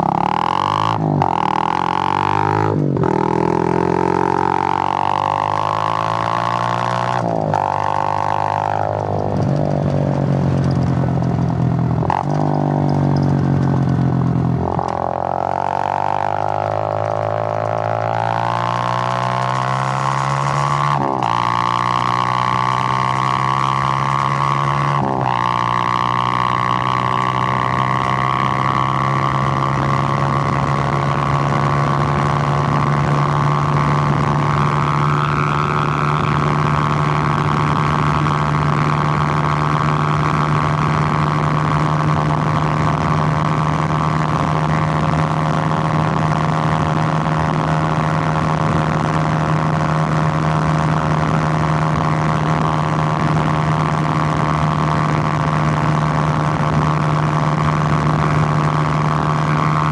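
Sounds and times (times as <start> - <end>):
motorcycle engine running steadily: 0.0 - 59.9.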